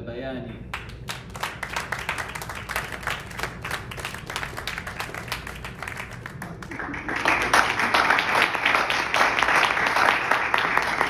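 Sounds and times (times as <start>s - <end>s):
audience clapping: 0.7s - 11.0s.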